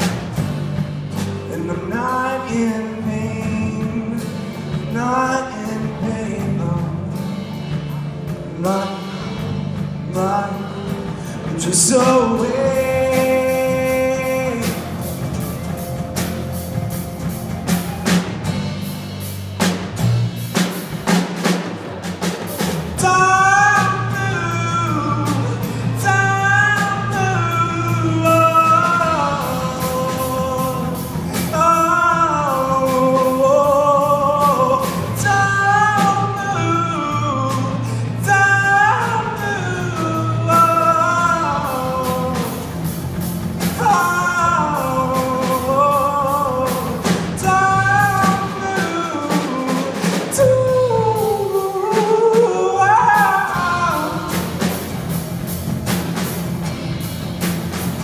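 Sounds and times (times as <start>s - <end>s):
acoustic and electric guitars: 0.0s - 58.0s
bass guitar: 0.0s - 58.0s
drums: 0.0s - 58.0s
person singing: 1.2s - 18.4s, 22.5s - 55.0s.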